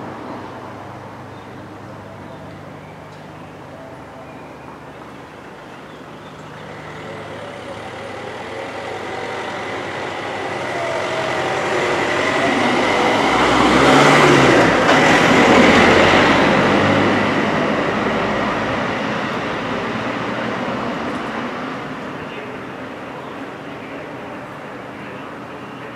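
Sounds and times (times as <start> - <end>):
vehicle passing: 0.0 - 25.4.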